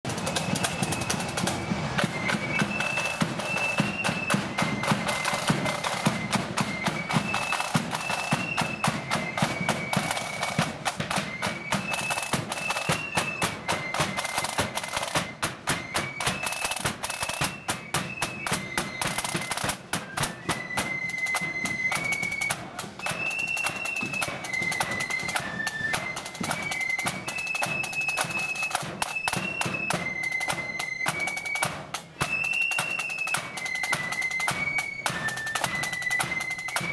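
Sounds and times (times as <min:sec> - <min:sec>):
shrill flutes playing a tune: 0:00.1 - 0:36.9
side drum rolls: 0:00.1 - 0:36.9.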